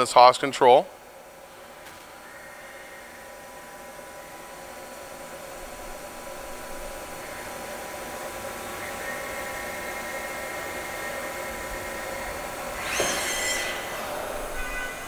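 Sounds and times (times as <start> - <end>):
lathe machine whine: 0.7 - 15.0.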